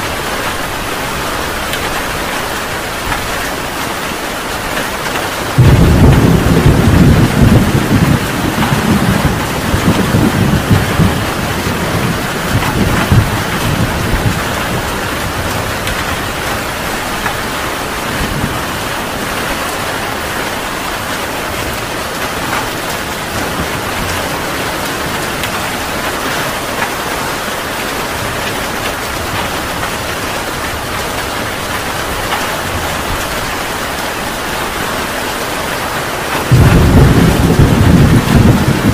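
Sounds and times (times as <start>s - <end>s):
heavy rain falling: 0.0s - 38.9s
thunderclap with low rumble: 4.3s - 38.9s.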